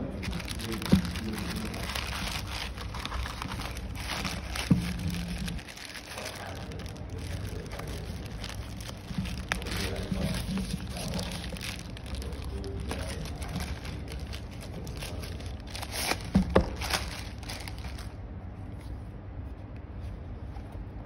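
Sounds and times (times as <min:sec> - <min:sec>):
plastic bag crinkling: 0:00.0 - 0:18.2.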